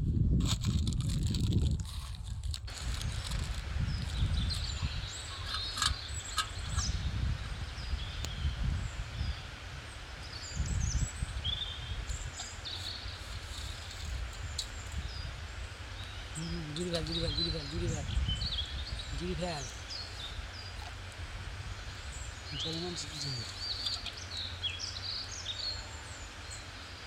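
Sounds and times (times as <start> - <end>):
birds chirping: 2.7 - 27.0.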